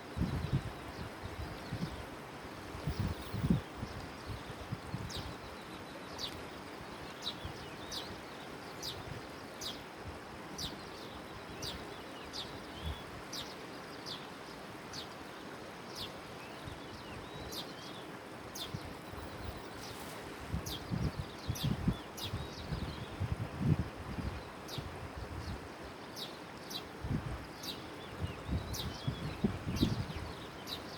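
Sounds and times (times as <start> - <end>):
background hiss: 0.0 - 30.9.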